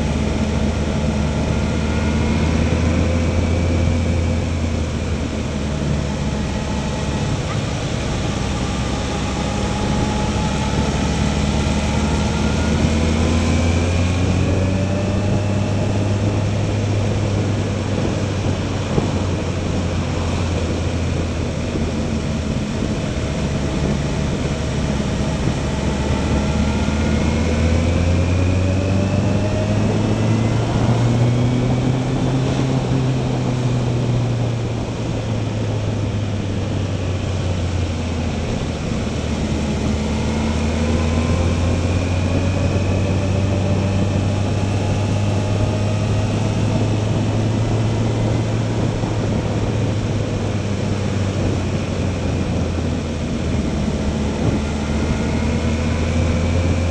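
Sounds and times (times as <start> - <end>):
motorcycle engine under load: 0.0 - 56.9
wind and road noise: 0.0 - 56.9.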